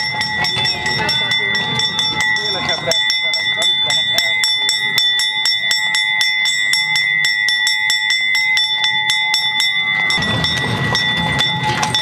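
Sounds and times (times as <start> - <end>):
brass bell ringing rapidly: 0.0 - 12.0.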